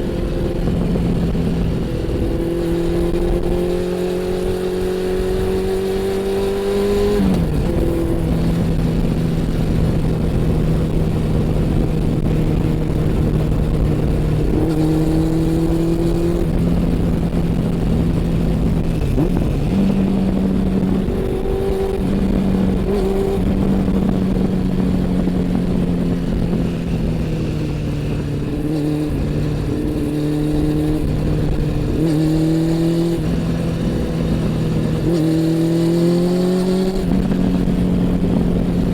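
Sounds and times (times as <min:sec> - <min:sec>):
motorcycle engine and exhaust: 0:00.0 - 0:38.9
wind and road noise: 0:00.0 - 0:38.9.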